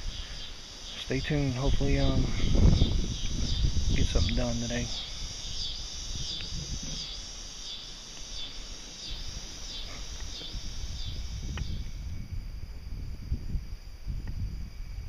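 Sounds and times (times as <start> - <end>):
wind rumble on microphone: 0.0 - 7.5, 8.9 - 15.0
insects singing in pulses: 0.0 - 15.0.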